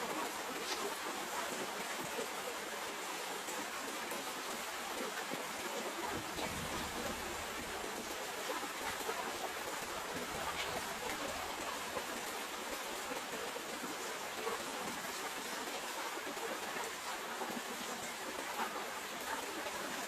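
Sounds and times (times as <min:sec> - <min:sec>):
raindrops pattering on surfaces: 0:00.0 - 0:20.0
steady rain falling: 0:00.0 - 0:20.0.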